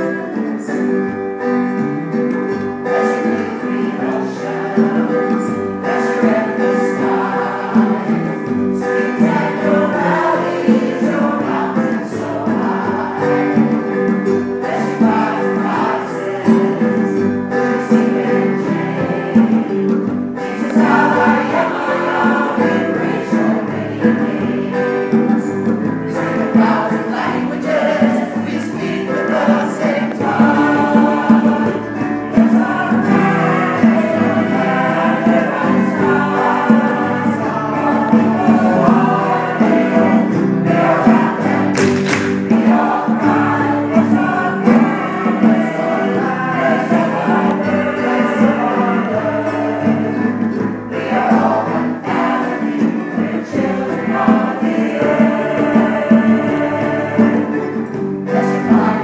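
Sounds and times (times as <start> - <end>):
choir singing held notes: 0.0 - 59.0.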